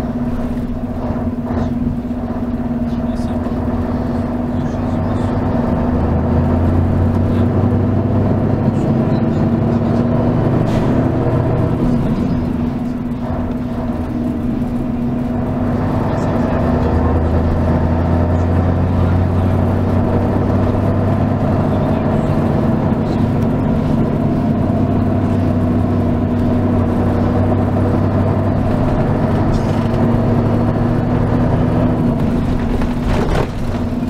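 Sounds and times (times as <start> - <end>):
bus diesel engine running: 0.0 - 34.0.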